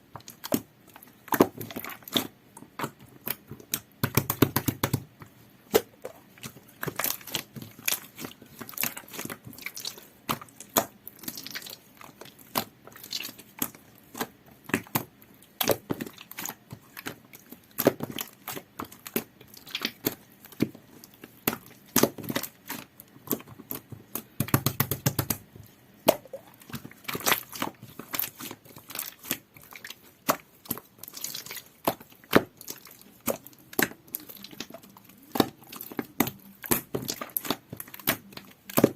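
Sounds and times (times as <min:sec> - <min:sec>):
slime squished by hand: 0:00.2 - 0:38.9.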